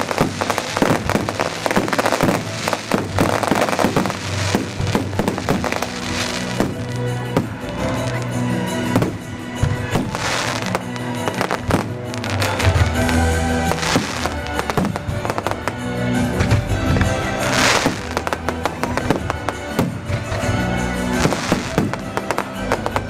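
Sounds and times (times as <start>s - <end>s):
fireworks bangs: 0.0s - 23.0s
music playing: 0.0s - 23.0s.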